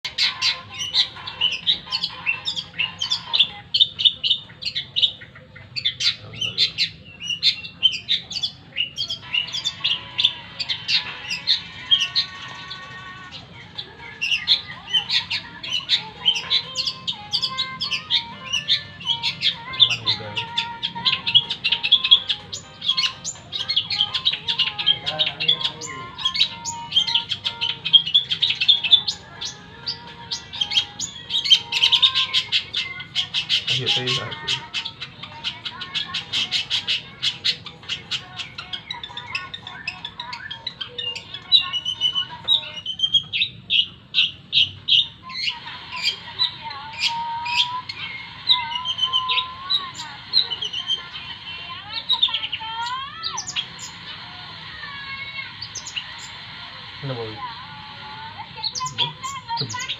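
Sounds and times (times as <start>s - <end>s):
bird chirping and whistling: 0.1s - 54.2s, 55.0s - 56.5s, 58.6s - 59.9s.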